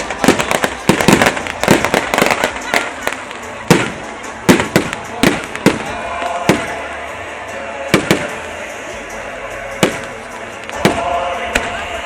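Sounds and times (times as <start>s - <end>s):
fireworks bangs with echo: 0.0s - 7.1s, 7.8s - 8.7s, 9.6s - 12.0s.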